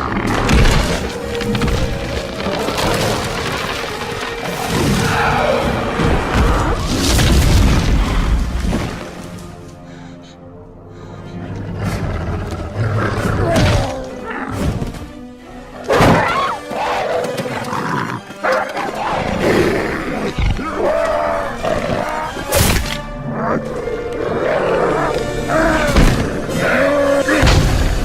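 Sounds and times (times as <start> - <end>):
animal roars and snarls: 0.0 - 8.6, 11.4 - 15.1, 15.7 - 28.0
dramatic orchestral music: 0.0 - 28.0.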